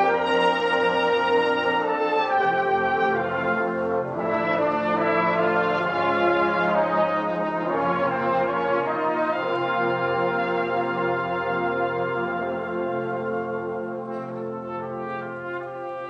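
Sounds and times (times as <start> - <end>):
concert band playing brass chords: 0.0 - 16.0.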